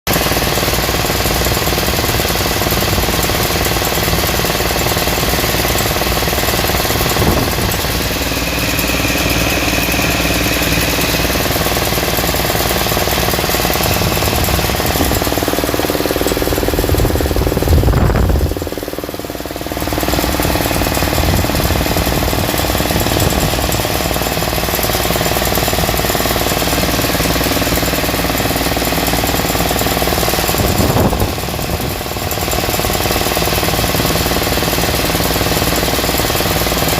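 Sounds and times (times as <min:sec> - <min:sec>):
machine running loudly: 0:00.1 - 0:36.9.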